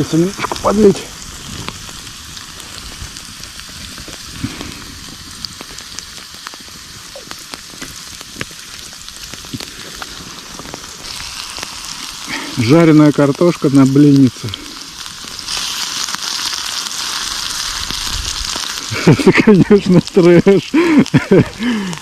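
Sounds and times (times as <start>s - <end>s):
oil popping and crackling: 0.0s - 22.0s
potatoes sizzling in oil: 0.0s - 22.0s.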